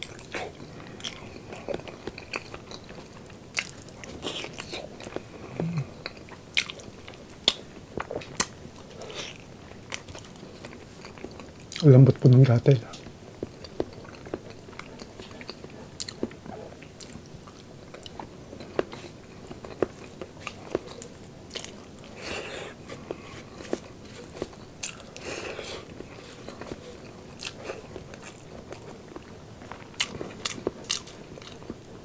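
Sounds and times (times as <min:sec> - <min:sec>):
person chewing: 0:00.0 - 0:11.9, 0:12.9 - 0:31.8.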